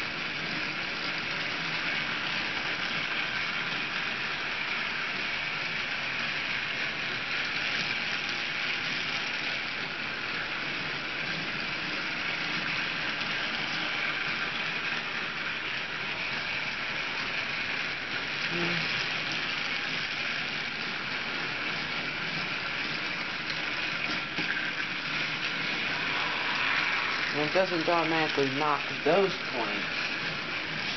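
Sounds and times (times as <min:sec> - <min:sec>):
toy train motor whirring: 0:00.0 - 0:30.9.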